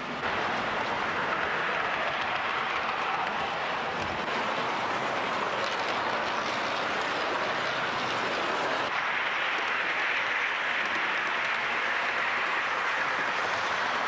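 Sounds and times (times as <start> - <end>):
model train wheels rattling on rail: 0.0 - 14.0.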